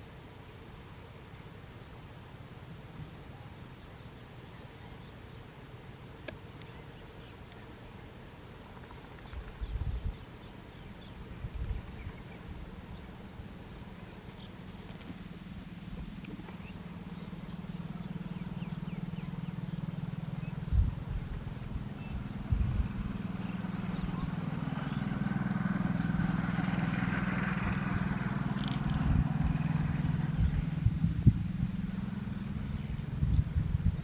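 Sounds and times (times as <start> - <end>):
engine humming: 0.7 - 34.0.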